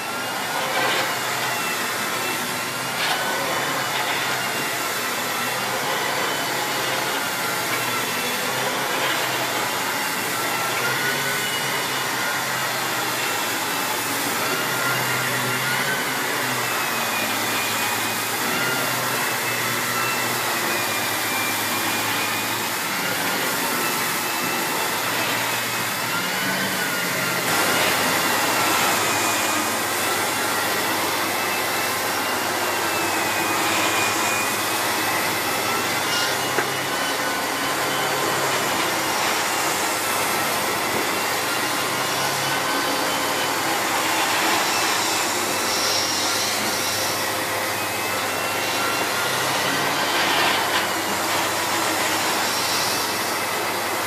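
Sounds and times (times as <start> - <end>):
vacuum cleaner motor whine: 0.0 - 54.0.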